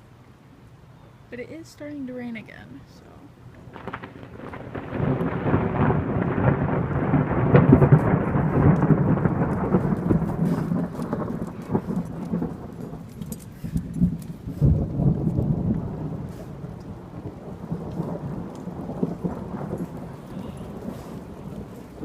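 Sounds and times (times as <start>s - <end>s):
rain falling: 0.0s - 22.0s
rolling thunder: 3.4s - 22.0s.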